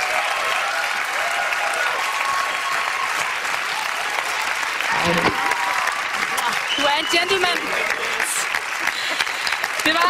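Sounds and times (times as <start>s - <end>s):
audience applauding: 0.0s - 10.0s
people cheering: 0.0s - 10.0s.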